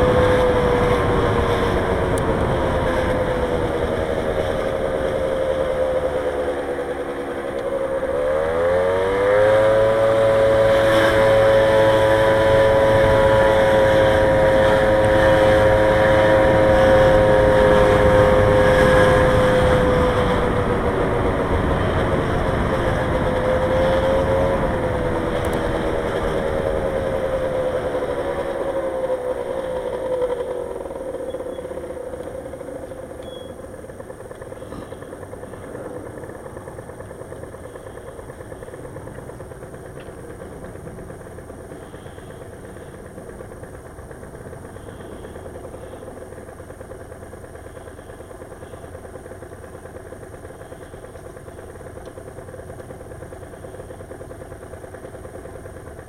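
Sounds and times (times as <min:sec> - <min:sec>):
engine idling: 0:00.0 - 0:56.0
vehicle engine slowing: 0:00.0 - 0:56.0.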